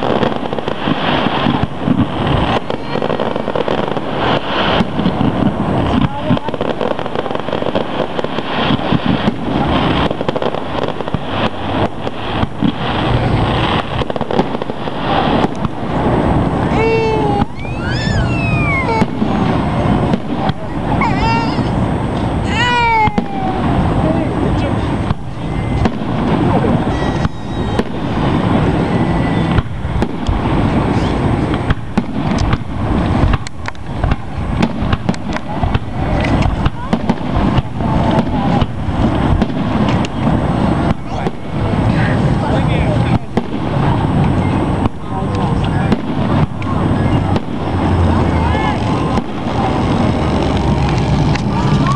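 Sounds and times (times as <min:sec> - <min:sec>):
constant noisy rumble: 0:00.0 - 0:51.9
fireworks bangs and crackles: 0:00.0 - 0:51.9
loud background noise: 0:00.0 - 0:51.9.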